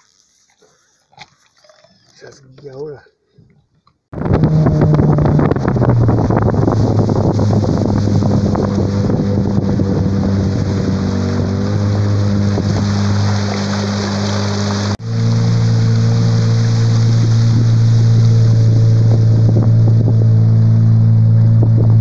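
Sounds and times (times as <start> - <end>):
outboard motor running: 4.1 - 22.0
wind buffeting microphone: 4.1 - 22.0
rush of boat wake: 4.2 - 22.0.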